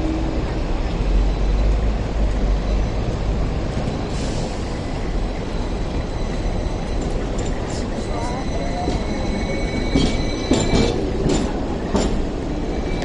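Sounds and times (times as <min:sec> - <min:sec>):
tram rumbling along track: 0:00.0 - 0:13.0.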